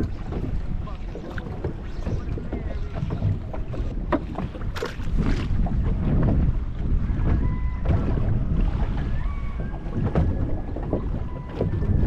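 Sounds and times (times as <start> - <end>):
water slapping boat hull: 0.0 - 12.0
wind buffeting microphone: 0.0 - 12.0.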